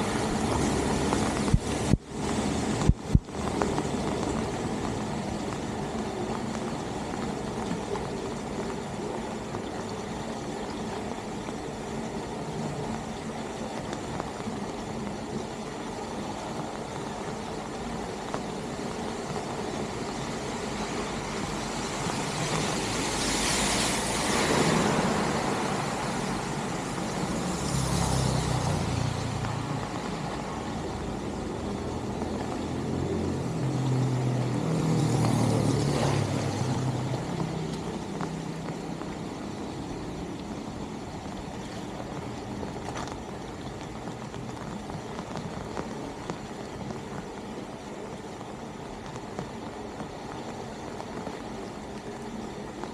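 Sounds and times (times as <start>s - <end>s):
rain and running water: 0.0s - 52.9s
tyres hissing through water: 0.0s - 52.9s.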